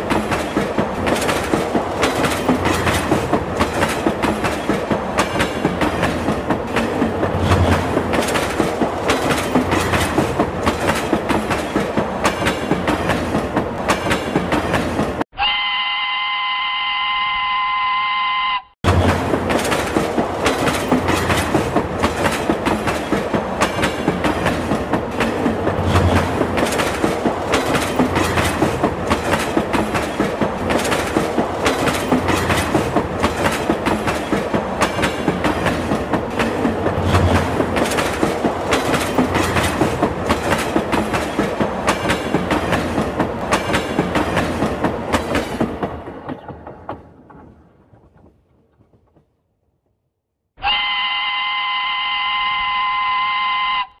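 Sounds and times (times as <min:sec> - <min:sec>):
train clattering over rail joints: 0:00.0 - 0:15.2, 0:18.8 - 0:49.6.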